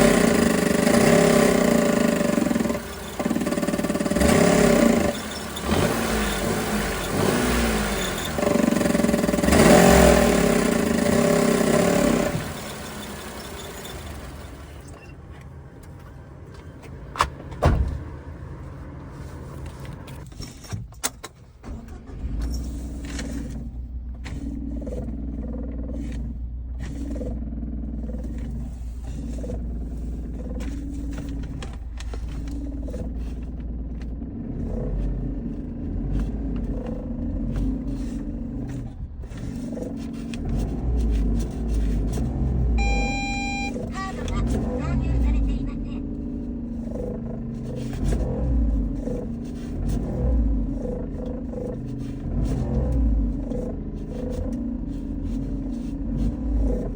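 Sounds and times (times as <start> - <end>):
van engine running: 0.0 - 56.9.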